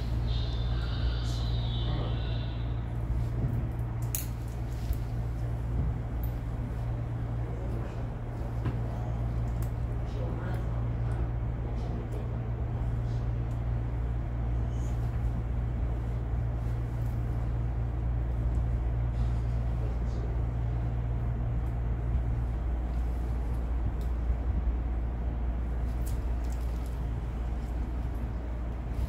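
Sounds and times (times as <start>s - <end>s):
low machine hum with rumble: 0.0s - 29.0s.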